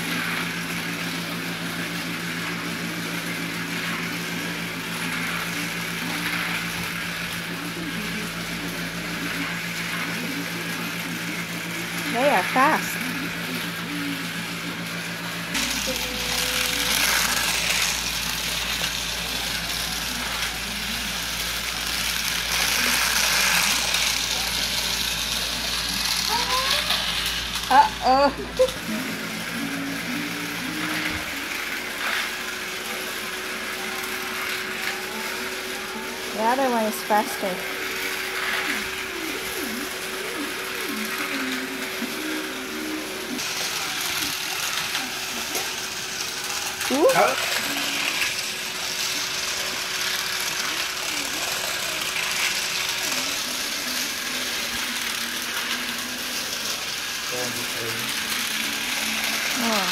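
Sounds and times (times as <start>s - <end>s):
toy car motor whirring: 0.0s - 59.9s.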